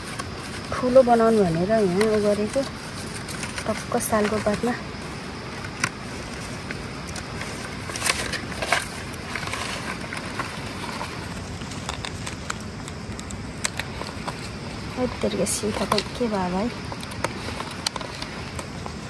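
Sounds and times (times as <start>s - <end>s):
leaves rustling and crackling: 0.0s - 19.0s
steady background noise: 0.0s - 19.0s.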